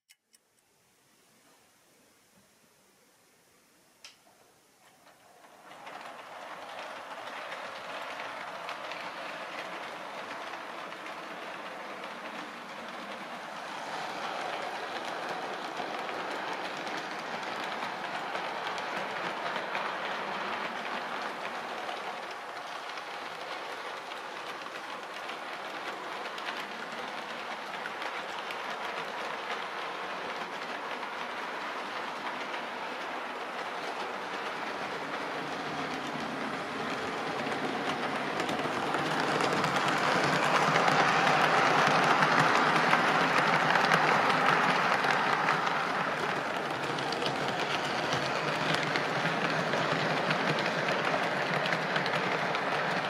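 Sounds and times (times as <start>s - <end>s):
model train wheels clattering: 4.8s - 53.0s.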